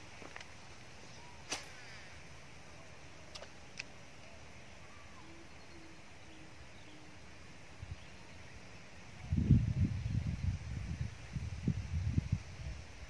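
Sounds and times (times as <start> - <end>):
wind hiss: 0.0 - 13.0.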